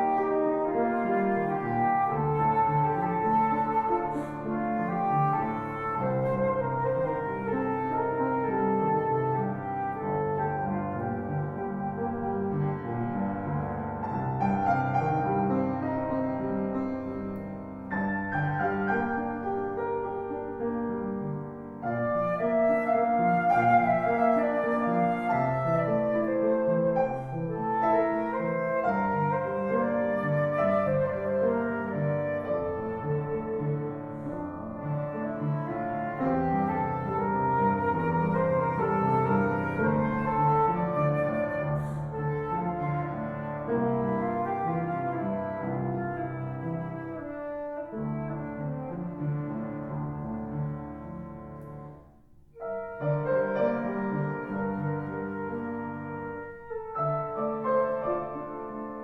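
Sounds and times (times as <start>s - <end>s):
flute: 0.0s - 59.0s
piano chords: 0.0s - 59.0s.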